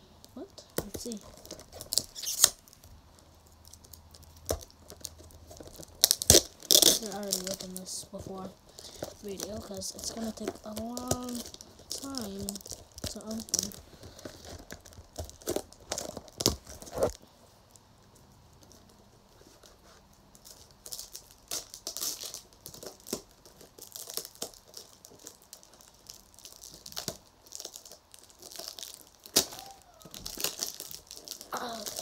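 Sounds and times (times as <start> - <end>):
packaging crinkling and tearing: 0.2 - 17.8, 18.5 - 32.0.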